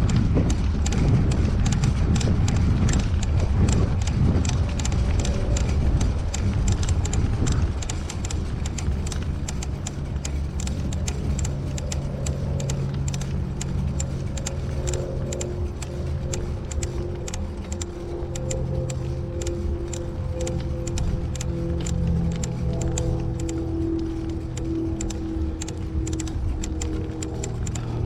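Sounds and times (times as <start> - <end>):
low rumble: 0.0 - 28.0
motor engine running: 0.0 - 28.0
quick clicks: 0.0 - 28.0.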